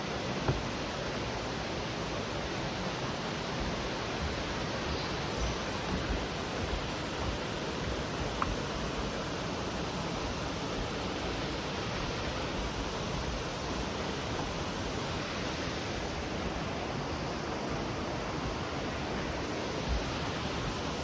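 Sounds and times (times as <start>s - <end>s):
fast-flowing stream water: 0.0s - 21.0s.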